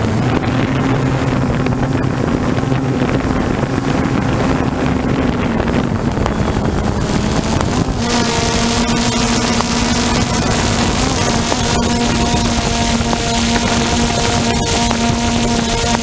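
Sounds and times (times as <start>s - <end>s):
drone propellers whirring: 0.0s - 16.0s
wind on microphone: 0.0s - 16.0s.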